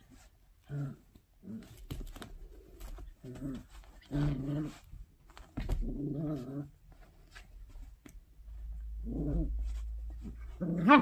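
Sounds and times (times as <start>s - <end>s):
puppy play growls: 0.6s - 7.4s, 8.5s - 11.0s.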